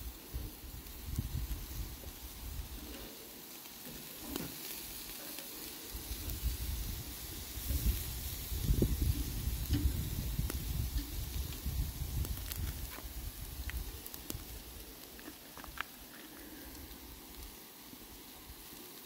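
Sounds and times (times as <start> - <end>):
steaks sizzling on a grill: 0.0 - 19.0.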